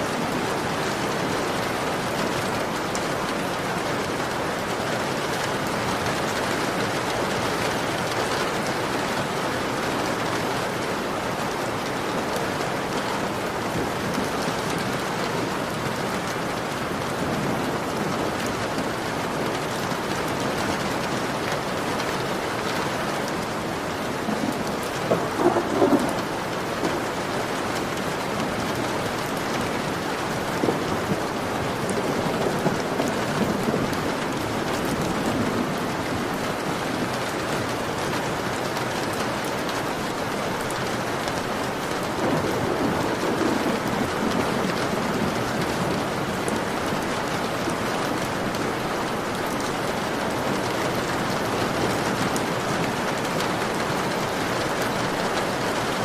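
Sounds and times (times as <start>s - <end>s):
heavy rain on a window: 0.0s - 56.0s.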